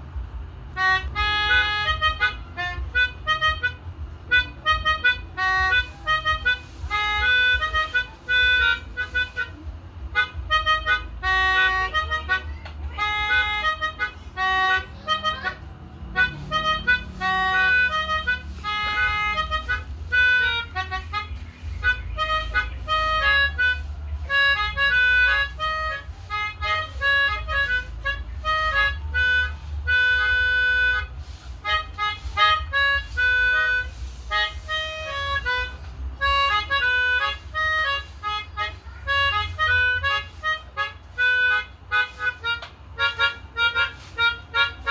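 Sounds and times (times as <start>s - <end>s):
melodica melody: 0.0s - 44.9s.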